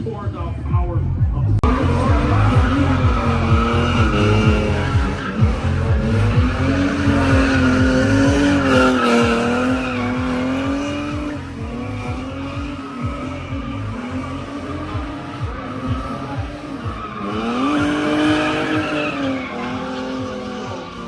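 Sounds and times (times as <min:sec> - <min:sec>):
pulsing low beat: 0:00.6 - 0:21.0
car engine revving: 0:00.8 - 0:21.0
tyres squealing: 0:01.6 - 0:21.0.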